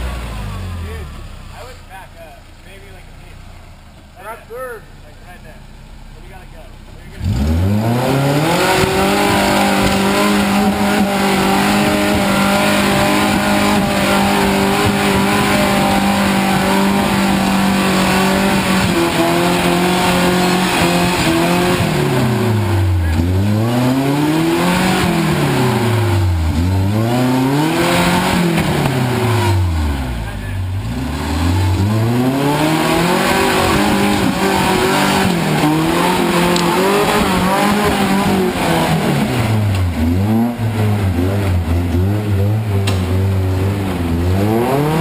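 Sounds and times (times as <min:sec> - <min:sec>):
off-road truck engine revving: 0:00.0 - 0:45.0.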